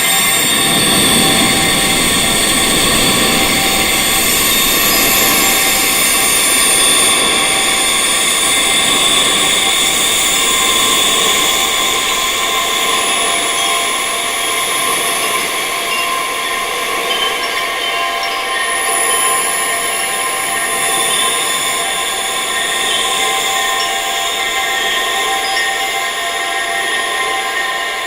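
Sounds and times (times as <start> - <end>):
wind chimes ringing: 0.0 - 28.0.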